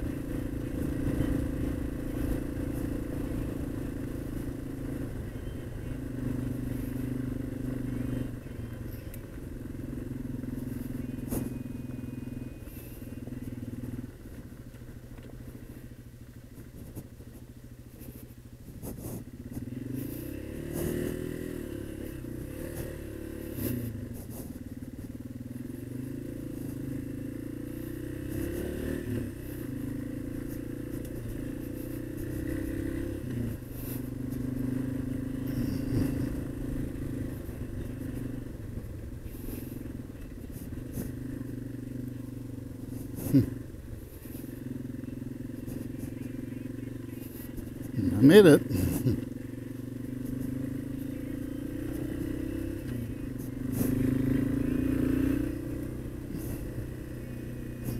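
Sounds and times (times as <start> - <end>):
motorcycle engine shifting gears: 0.0 - 57.9.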